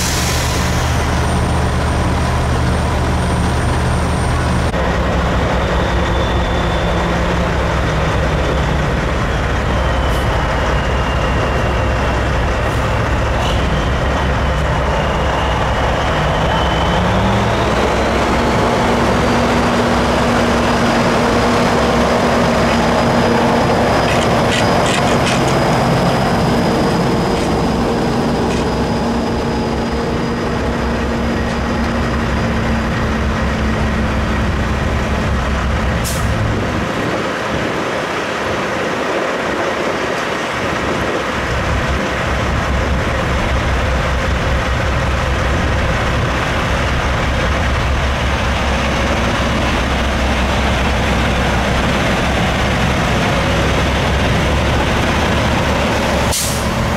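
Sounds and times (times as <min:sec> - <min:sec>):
diesel trucks rolling past: 0:00.0 - 0:56.9.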